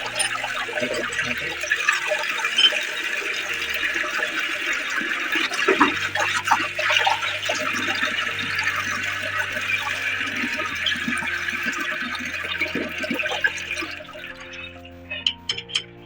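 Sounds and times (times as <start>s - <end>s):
water rushing from a tap: 0.0s - 15.6s.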